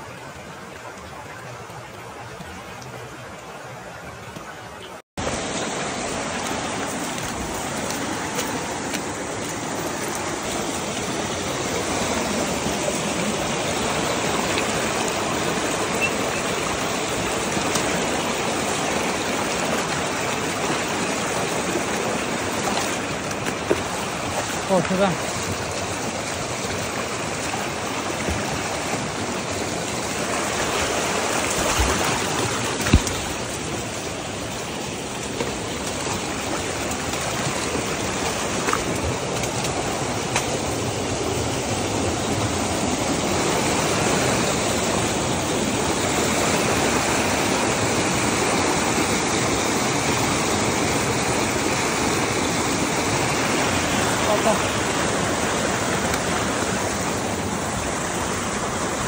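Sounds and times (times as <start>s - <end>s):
creek rushing over stones: 0.0s - 59.0s.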